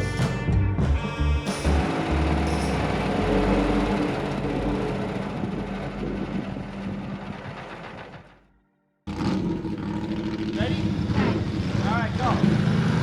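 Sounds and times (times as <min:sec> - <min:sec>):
engine running steadily: 0:01.5 - 0:08.4, 0:09.1 - 0:13.0.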